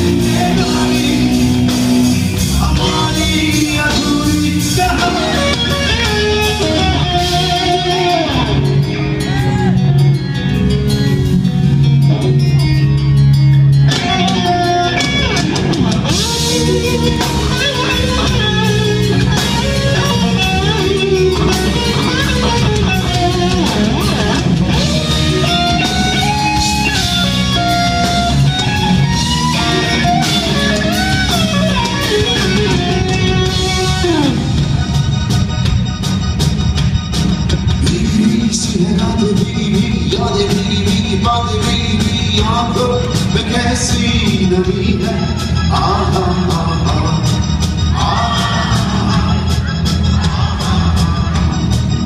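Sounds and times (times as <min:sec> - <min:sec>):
drums: 0:00.0 - 0:52.0
electric guitar lead with bent notes: 0:00.0 - 0:52.0
rock band playing: 0:00.0 - 0:52.0.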